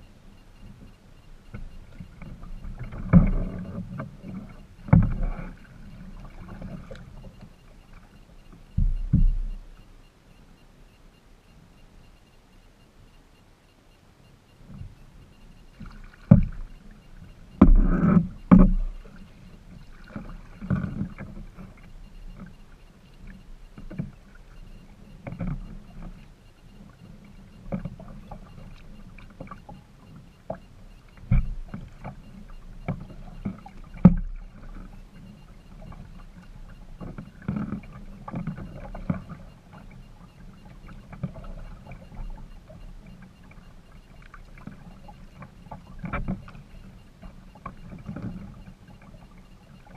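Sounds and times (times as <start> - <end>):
paddle splashes: 1.4 - 9.8, 15.7 - 49.9.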